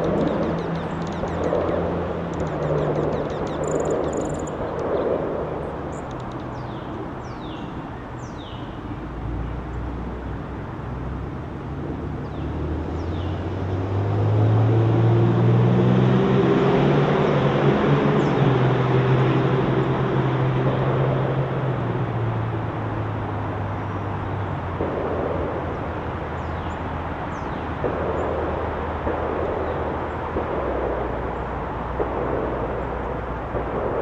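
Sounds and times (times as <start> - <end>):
distant engine drone: 0.0 - 34.0.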